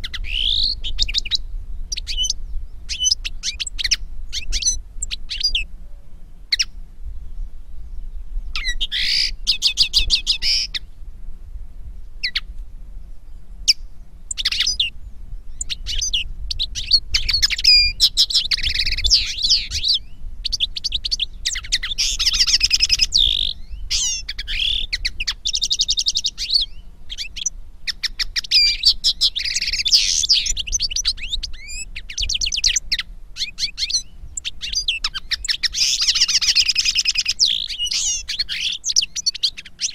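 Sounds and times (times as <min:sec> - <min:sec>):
birds twittering and trilling: 0:00.0 - 0:10.9, 0:13.1 - 0:39.9
faint low hum: 0:00.0 - 0:36.4.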